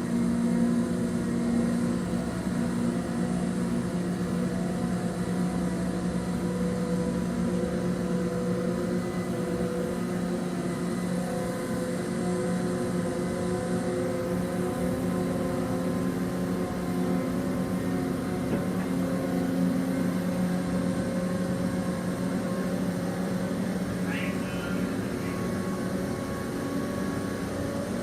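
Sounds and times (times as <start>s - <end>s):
boat engines droning: 0.0s - 28.0s.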